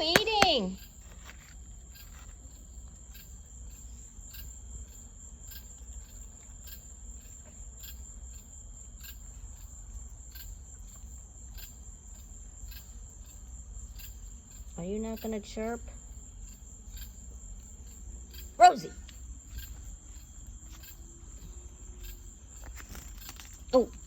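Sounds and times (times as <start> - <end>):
insect chirps: 0.0 - 24.0
insects trilling: 0.0 - 24.0.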